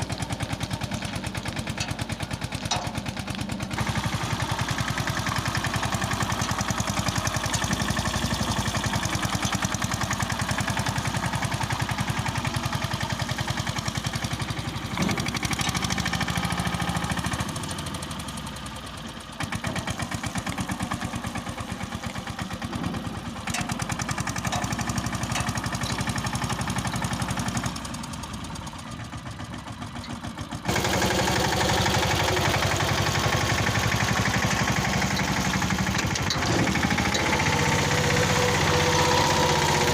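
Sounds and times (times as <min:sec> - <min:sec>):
tractor diesel engine thudding: 0:00.0 - 0:39.9.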